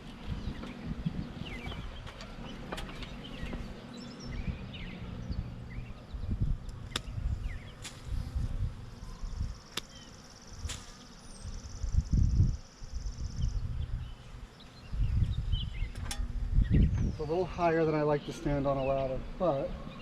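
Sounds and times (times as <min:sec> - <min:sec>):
low rumbles: 0:00.0 - 0:09.6, 0:11.6 - 0:20.0
bees buzzing: 0:00.0 - 0:20.0.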